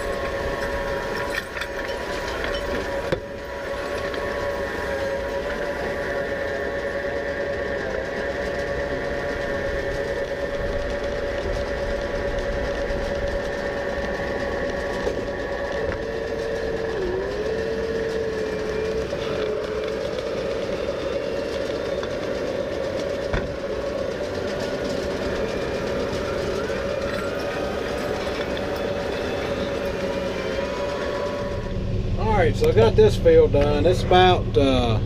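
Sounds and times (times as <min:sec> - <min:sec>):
steady whine: 0:00.0 - 0:35.0
tractor diesel engine running: 0:00.0 - 0:35.0
wavering tone: 0:00.0 - 0:35.0.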